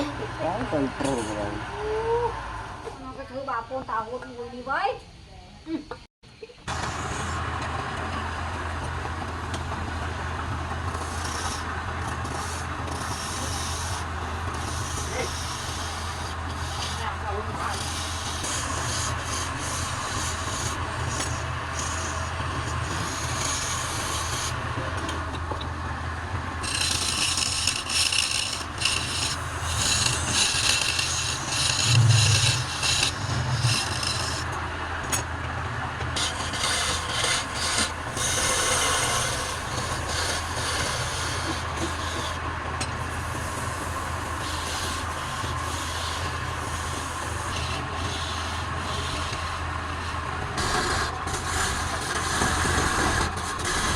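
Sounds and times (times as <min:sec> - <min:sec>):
tool scraping spinning wood: 0:00.0 - 0:01.9, 0:06.6 - 0:53.9
wood lathe motor humming: 0:00.0 - 0:03.2, 0:06.7 - 0:53.9.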